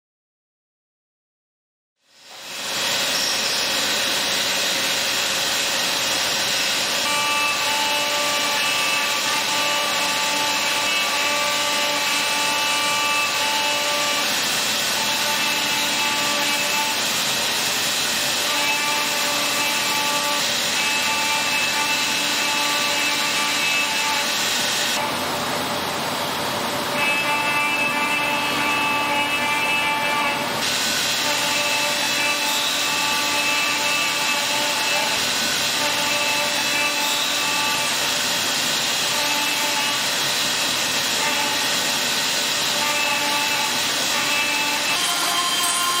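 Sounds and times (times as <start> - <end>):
cnc machine hissing and whining: 2.1 - 46.0.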